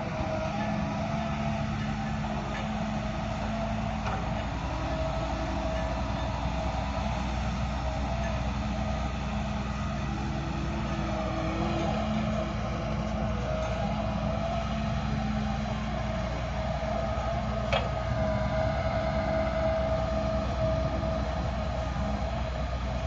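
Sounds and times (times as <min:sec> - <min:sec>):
heavy diesel engine drone: 0:00.0 - 0:23.0.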